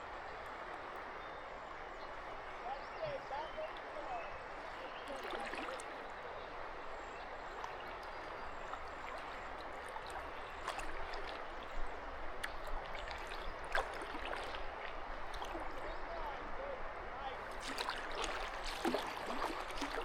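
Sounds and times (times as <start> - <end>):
river water rushing: 0.0 - 20.0
paddle splashes: 2.0 - 16.6, 17.3 - 20.0.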